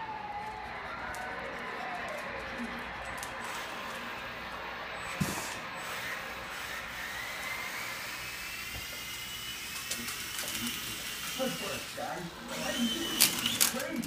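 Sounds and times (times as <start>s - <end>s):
toy helicopter motor whining: 0.0s - 14.0s.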